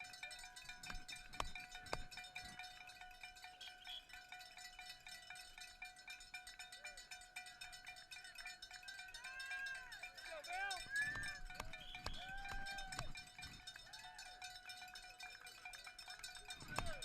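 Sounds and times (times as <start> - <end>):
bell shaken rapidly: 0.0 - 17.0.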